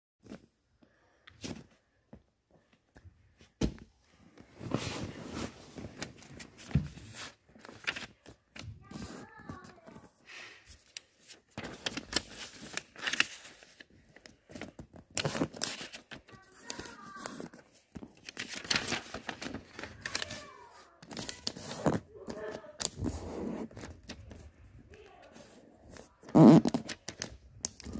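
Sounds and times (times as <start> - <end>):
paper rustling and crinkling: 3.4 - 27.9.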